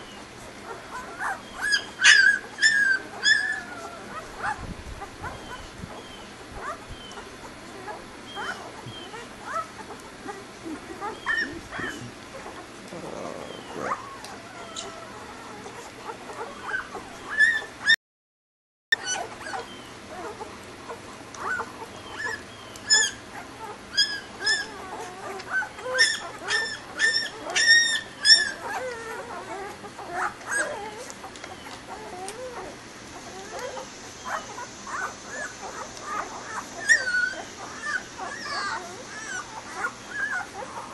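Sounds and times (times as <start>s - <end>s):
puppies squeaking and whimpering: 0.0s - 18.0s, 19.0s - 40.9s.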